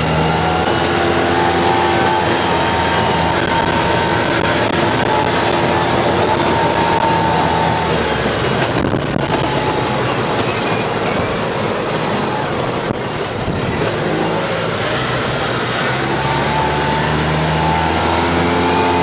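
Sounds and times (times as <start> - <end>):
road and wind noise: 0.0 - 19.0
vehicle engine running: 0.0 - 19.0.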